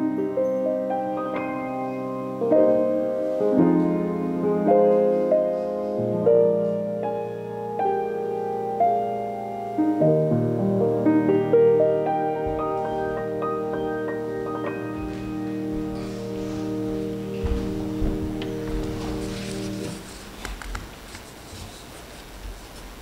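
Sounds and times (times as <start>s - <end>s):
slow piano chords and melody: 0.0s - 20.4s.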